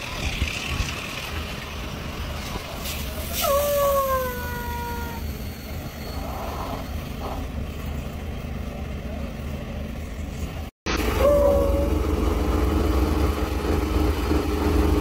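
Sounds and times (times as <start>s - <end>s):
truck diesel engine rumbling: 0.0s - 5.4s, 7.4s - 15.0s.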